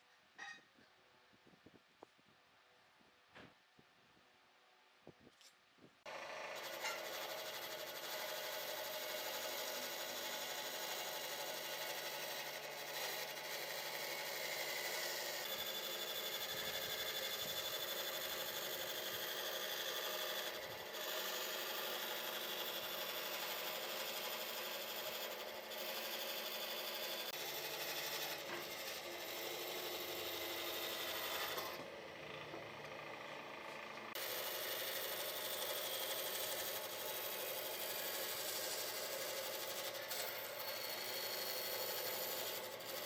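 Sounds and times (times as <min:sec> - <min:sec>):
power tool running: 0:06.1 - 0:43.0.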